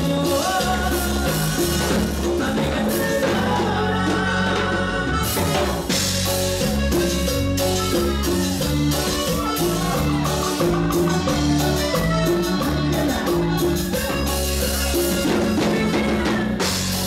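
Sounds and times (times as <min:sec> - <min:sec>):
drum kit: 0:00.0 - 0:17.0
electric bass: 0:00.0 - 0:17.0
keyboard melody: 0:00.0 - 0:17.0.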